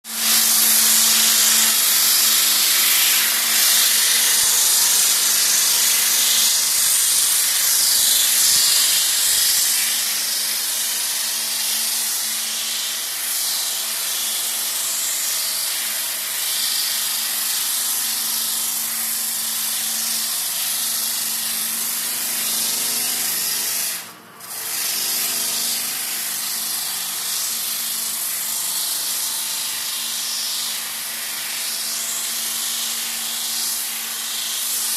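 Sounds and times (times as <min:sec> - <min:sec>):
floor sanding machine running: 0:00.0 - 0:34.9.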